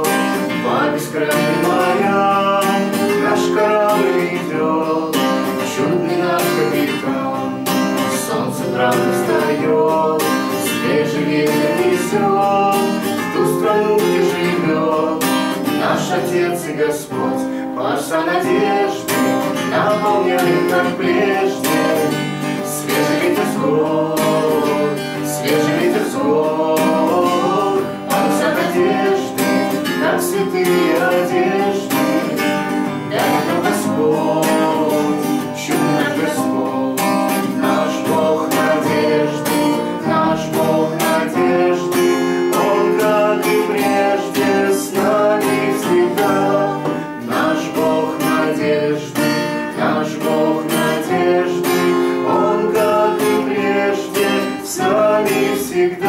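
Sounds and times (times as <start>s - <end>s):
acoustic guitar strumming: 0.0s - 56.0s
person singing: 0.0s - 56.0s.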